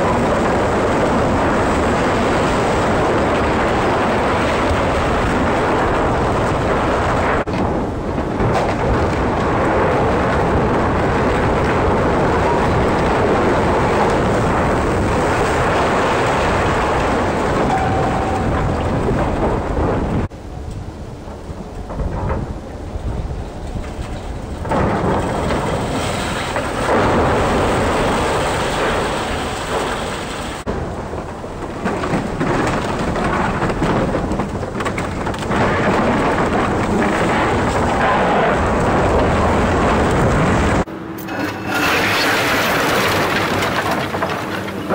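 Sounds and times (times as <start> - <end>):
debris crashing and falling: 0.0 - 20.3, 21.8 - 44.9.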